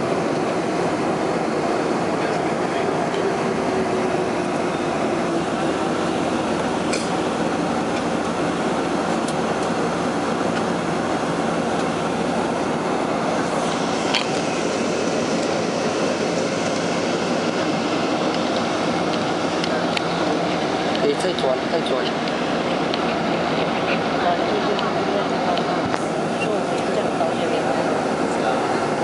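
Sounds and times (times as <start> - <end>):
aircraft cabin roar: 0.0 - 29.0.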